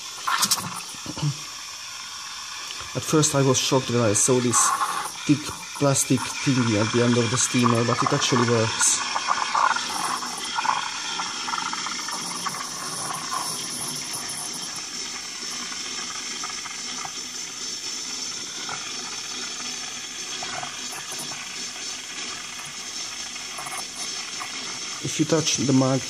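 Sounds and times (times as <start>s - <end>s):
steam wand hissing: 0.0s - 26.0s.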